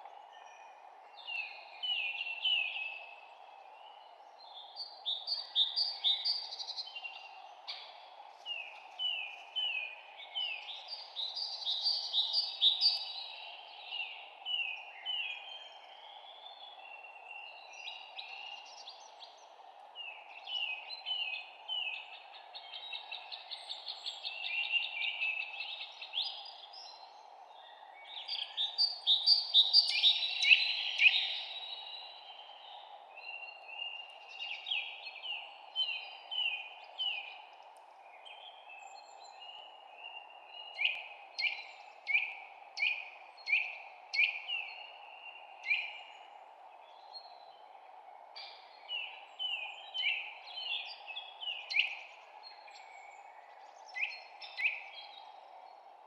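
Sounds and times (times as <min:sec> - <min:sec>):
songbirds chirping and trilling: 0:00.0 - 0:56.0
steady background hiss: 0:00.0 - 0:56.0.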